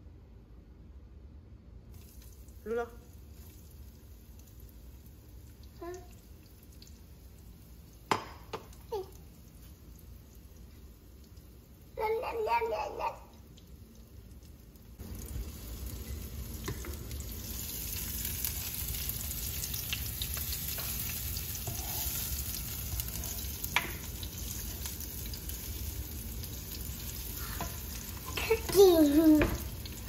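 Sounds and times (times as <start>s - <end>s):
shallots sizzling in oil: 1.9s - 30.0s.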